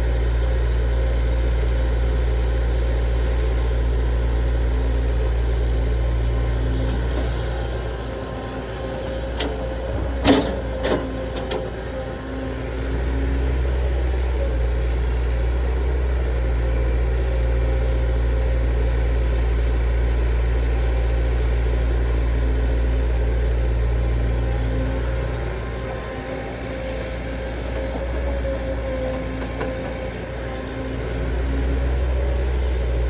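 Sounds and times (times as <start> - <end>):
heavy diesel engine droning: 0.0 - 33.0.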